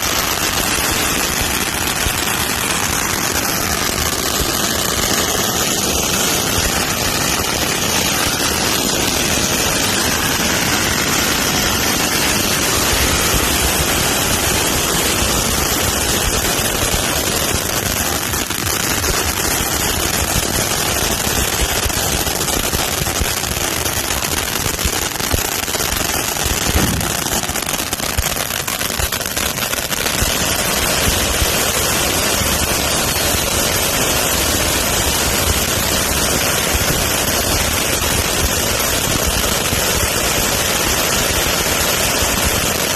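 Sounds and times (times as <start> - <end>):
fireworks crackling and popping: 0.0 - 42.9.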